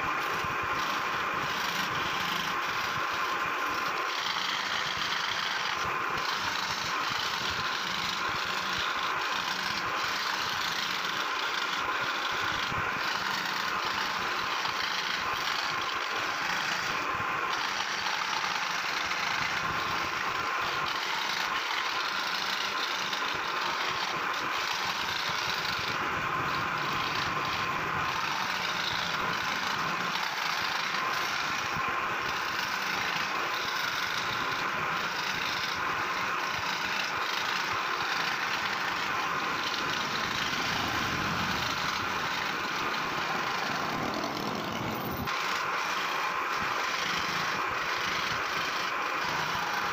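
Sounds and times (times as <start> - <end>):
scroll saw cutting wood: 0.0 - 49.9.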